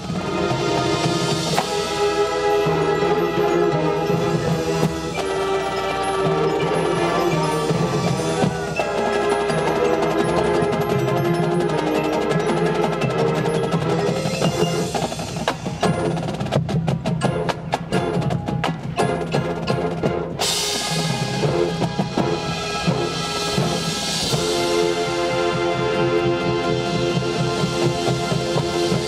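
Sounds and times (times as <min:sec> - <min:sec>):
brass and woodwind chords: 0:00.0 - 0:15.0, 0:20.1 - 0:29.0
sharp percussion strikes: 0:00.0 - 0:25.8
marching percussion: 0:00.0 - 0:29.0.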